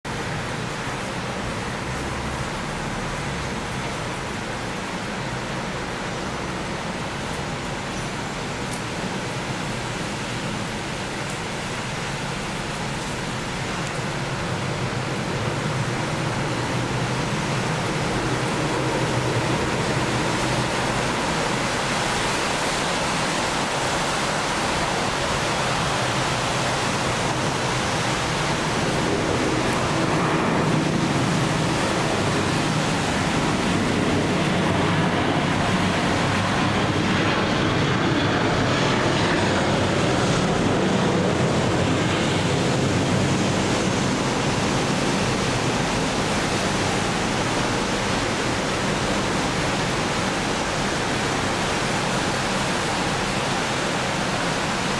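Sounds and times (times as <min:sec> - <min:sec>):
jet airliner rushing overhead: 0:00.2 - 0:54.9.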